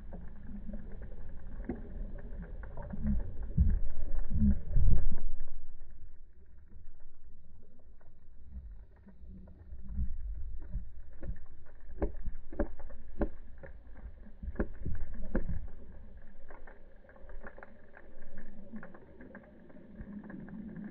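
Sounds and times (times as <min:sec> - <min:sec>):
muffled underwater rumble: 0:00.0 - 0:20.9.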